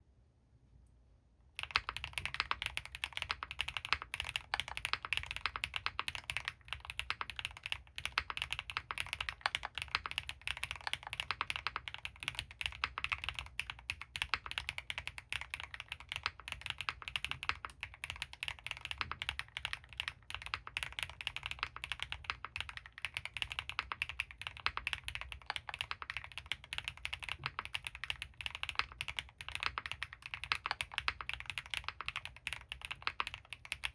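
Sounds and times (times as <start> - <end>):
fast typing on mechanical keyboard: 1.6 - 33.9.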